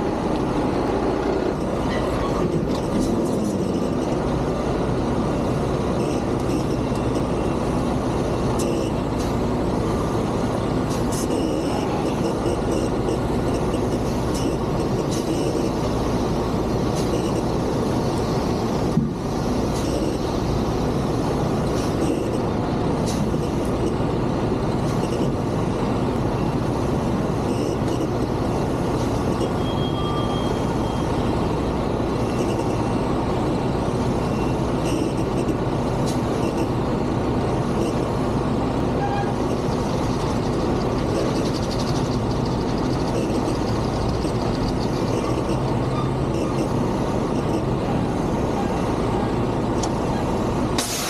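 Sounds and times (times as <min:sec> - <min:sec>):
diesel truck engine reversing: 0:00.0 - 0:51.0.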